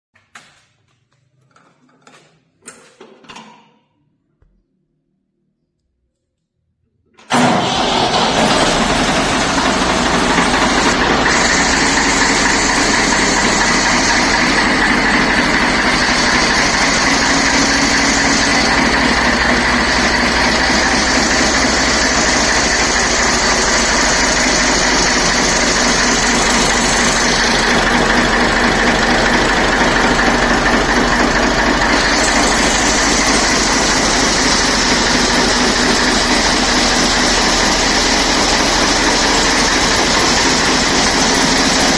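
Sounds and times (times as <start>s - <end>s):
tractor engine idling: 7.3s - 41.9s.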